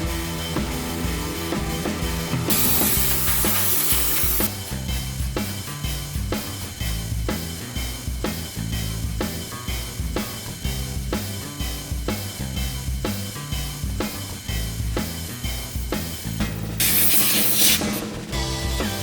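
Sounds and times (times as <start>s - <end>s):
bass line: 0.0s - 19.0s
steady drum beat: 0.0s - 19.0s.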